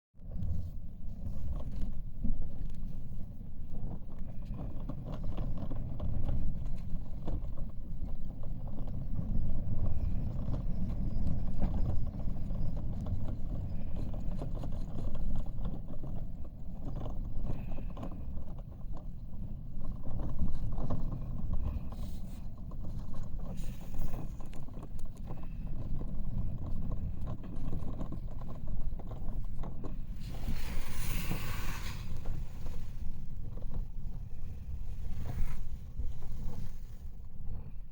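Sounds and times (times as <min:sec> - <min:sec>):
gusty wind buffeting microphone: 0:00.2 - 0:37.9.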